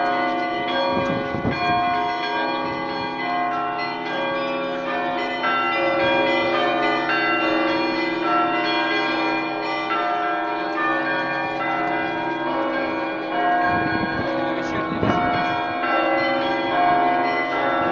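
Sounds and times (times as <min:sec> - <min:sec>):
church bells pealing: 0:00.0 - 0:17.9.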